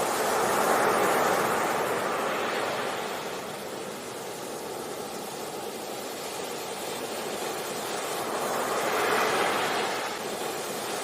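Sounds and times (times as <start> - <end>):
ocean waves on a beach: 0.0 - 11.0.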